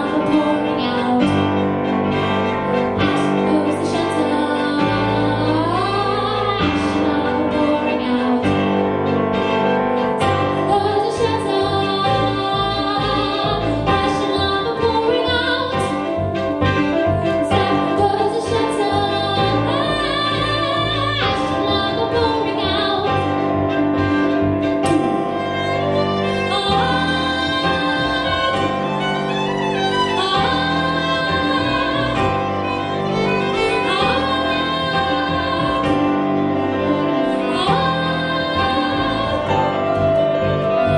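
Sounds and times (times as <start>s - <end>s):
woman singing: 0.0s - 1.7s, 3.0s - 8.8s, 10.2s - 23.7s, 24.8s - 40.9s
keyboard playing: 0.0s - 40.9s
violin: 0.0s - 40.9s.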